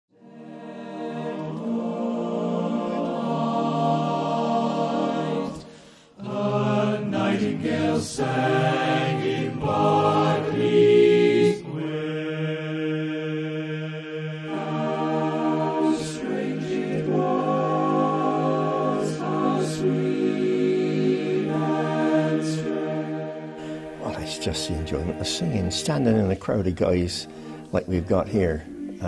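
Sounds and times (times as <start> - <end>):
male chorus singing a cappella: 0.1 - 29.0.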